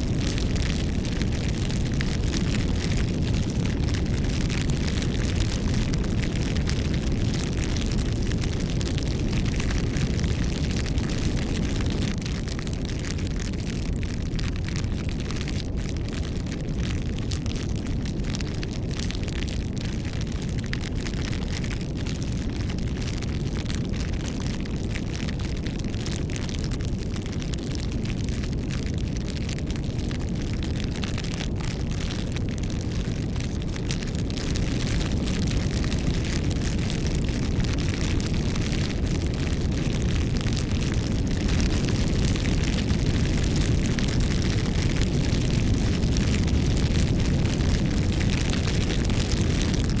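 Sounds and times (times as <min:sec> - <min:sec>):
bonfire flames rumbling: 0:00.0 - 0:50.0
burning wood crackles: 0:00.0 - 0:50.0.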